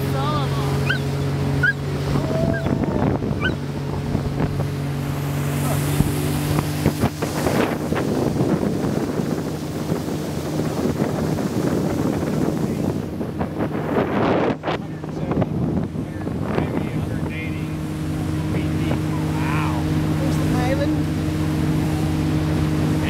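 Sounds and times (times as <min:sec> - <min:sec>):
boat engine drone: 0:00.0 - 0:23.0
water splashing along hull: 0:00.0 - 0:23.0
wind buffeting microphone: 0:00.0 - 0:23.0.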